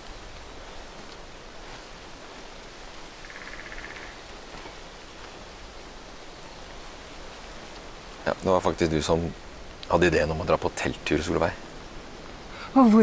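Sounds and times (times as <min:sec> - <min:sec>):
forest ambience hiss: 0:00.0 - 0:13.0.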